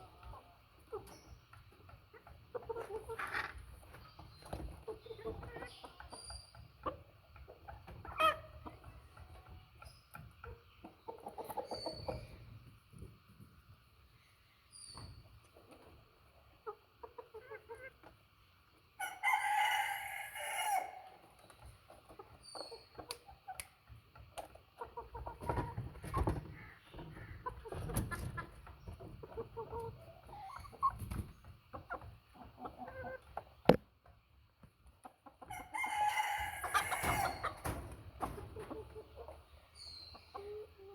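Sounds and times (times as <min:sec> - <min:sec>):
hens clucking: 0:00.0 - 0:13.1, 0:15.5 - 0:40.9.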